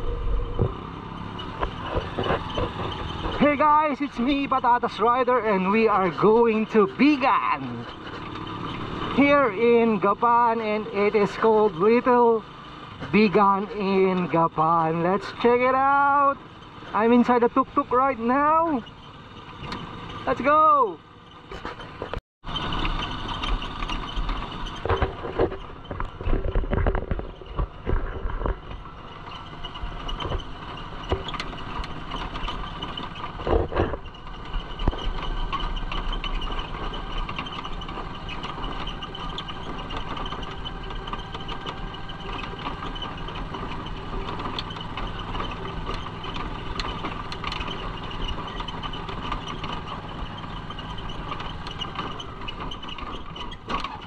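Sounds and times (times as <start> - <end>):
sidecar knocking and rattling: 0.0 - 54.0
small motorcycle engine running: 0.0 - 54.0.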